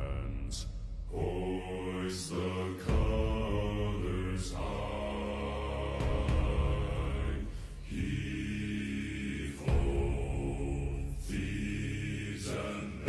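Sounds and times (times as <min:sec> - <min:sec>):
men singing a sea shanty: 0:00.0 - 0:13.0.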